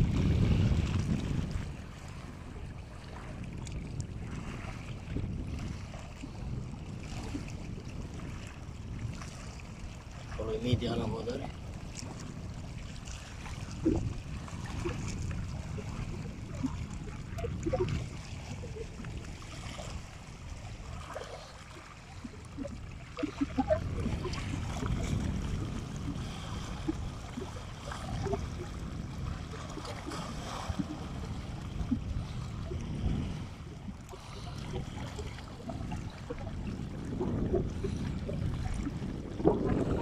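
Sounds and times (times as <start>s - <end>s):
waves lapping against rocks: 0.0s - 40.0s
wind rumbling on microphone: 0.0s - 40.0s.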